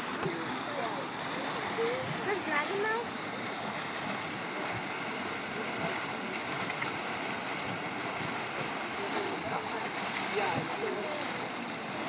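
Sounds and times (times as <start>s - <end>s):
mud bubbling and churning: 0.0s - 12.0s.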